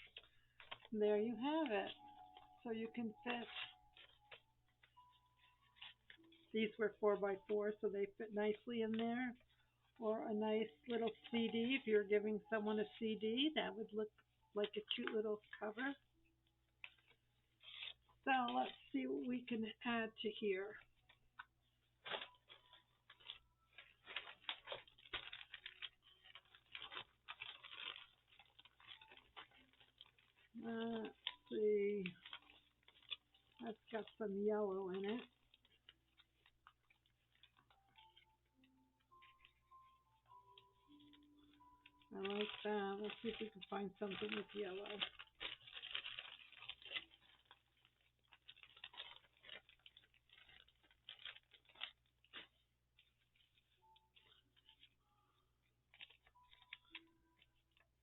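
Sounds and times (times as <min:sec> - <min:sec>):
paper rustling: 0:00.0 - 0:16.1, 0:16.7 - 0:58.0.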